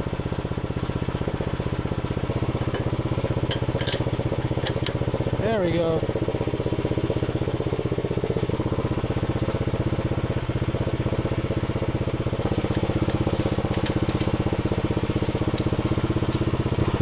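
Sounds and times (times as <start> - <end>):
excavator engine idling: 0.0 - 17.0.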